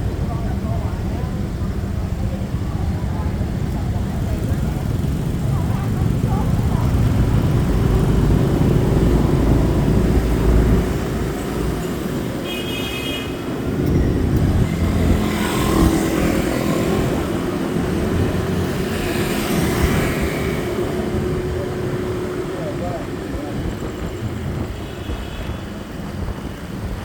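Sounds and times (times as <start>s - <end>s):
wind rumble: 0.0s - 12.4s, 13.4s - 27.0s
street traffic: 0.0s - 27.0s
vehicles passing: 0.0s - 27.0s.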